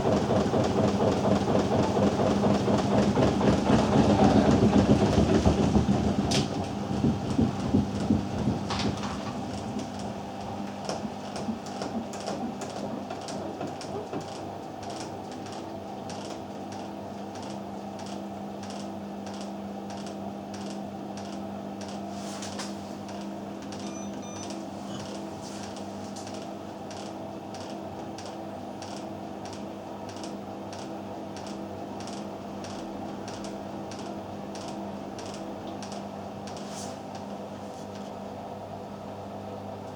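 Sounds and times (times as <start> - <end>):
washing machine drum running: 0.0 - 37.5.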